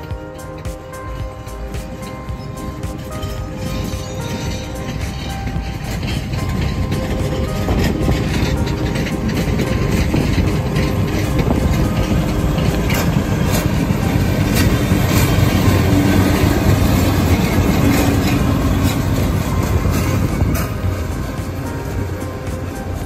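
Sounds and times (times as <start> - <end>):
diesel locomotive engine: 0.0 - 23.0
train wheels clicking over rail joints: 0.0 - 23.0.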